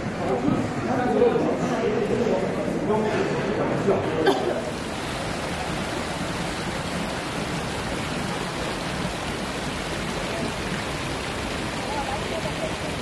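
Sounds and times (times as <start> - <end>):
fountain jets splashing into pool: 0.0 - 13.0.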